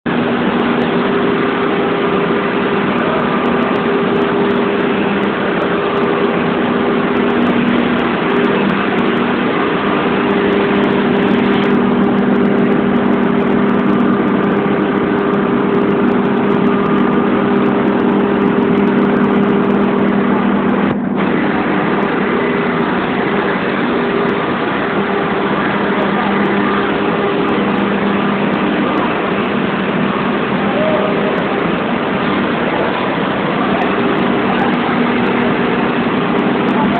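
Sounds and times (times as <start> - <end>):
machine engine drone: 0.0 - 36.9.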